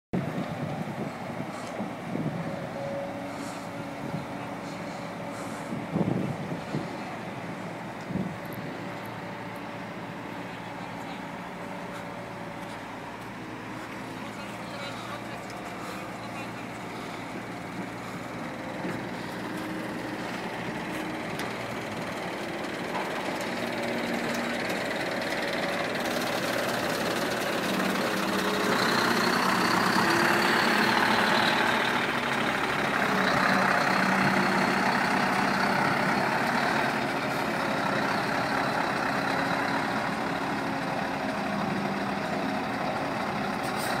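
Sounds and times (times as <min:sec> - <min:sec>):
diesel truck engine idling: 0:00.2 - 0:44.0.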